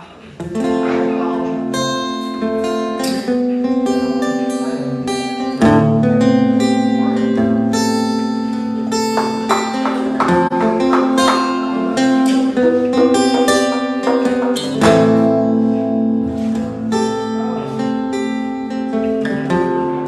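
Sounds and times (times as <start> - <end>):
acoustic guitar picked and strummed: 0.0 - 20.0.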